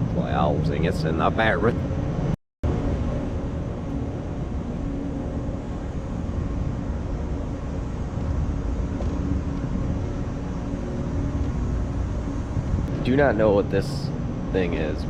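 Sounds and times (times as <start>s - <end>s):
faint constant hum: 0.0s - 15.0s
ventilation rumble: 0.0s - 15.0s.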